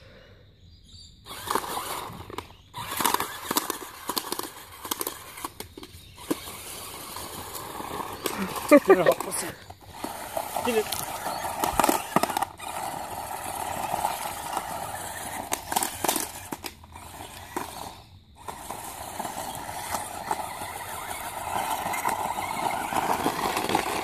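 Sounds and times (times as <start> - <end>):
toy electric motor whirring: 1.2 - 24.0.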